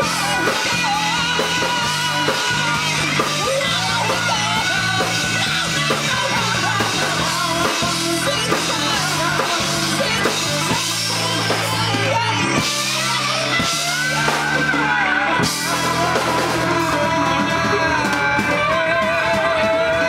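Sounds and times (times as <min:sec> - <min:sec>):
drum kit: 0:00.0 - 0:20.0
electric guitar: 0:00.0 - 0:20.0
man singing: 0:00.0 - 0:20.0.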